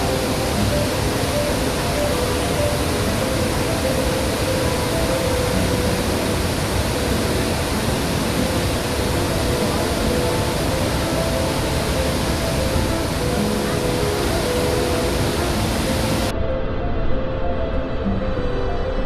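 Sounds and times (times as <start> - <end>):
waterfall rushing: 0.0 - 16.3.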